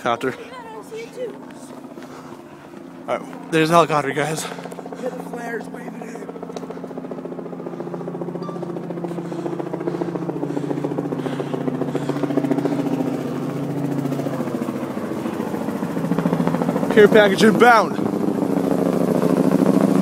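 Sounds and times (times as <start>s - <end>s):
helicopter engine drone: 0.0s - 20.0s
helicopter rotor blades beating: 0.0s - 20.0s.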